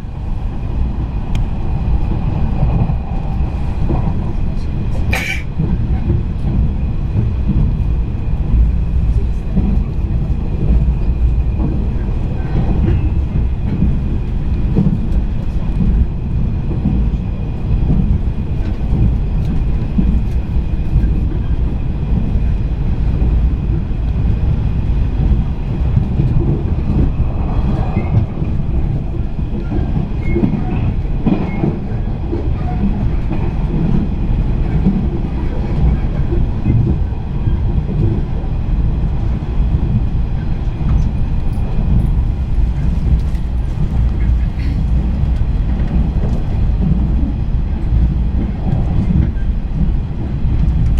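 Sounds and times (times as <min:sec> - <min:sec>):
low rumble of train wheels: 0:00.0 - 0:50.9.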